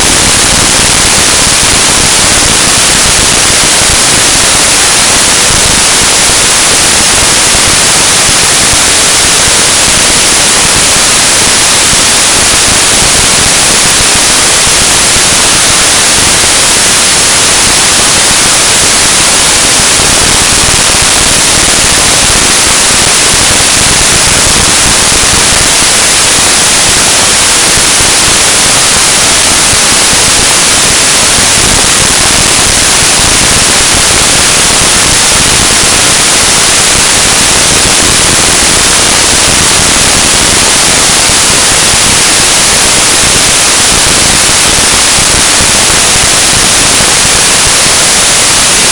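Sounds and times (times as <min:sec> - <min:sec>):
static hiss: 0:00.0 - 0:48.9.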